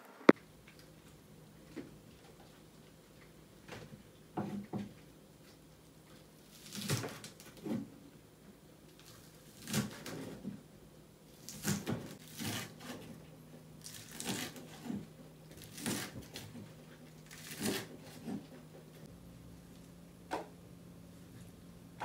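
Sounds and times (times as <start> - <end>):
faint low hum: 0.0 - 22.0
rustling and crunching of food: 0.1 - 10.7, 11.3 - 19.1.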